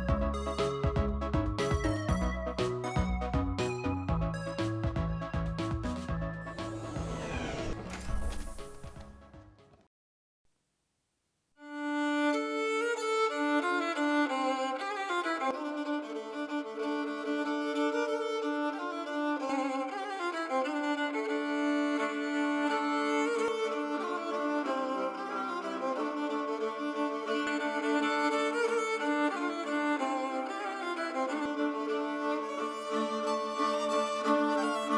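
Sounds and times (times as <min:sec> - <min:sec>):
violin music: 0:00.0 - 0:07.6, 0:11.6 - 0:34.9.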